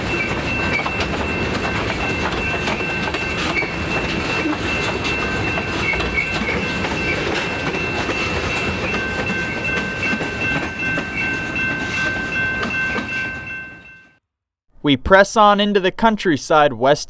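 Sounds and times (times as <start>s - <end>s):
wheels clacking over rail joints: 0.0s - 13.9s
freight train rumbling: 0.0s - 14.0s.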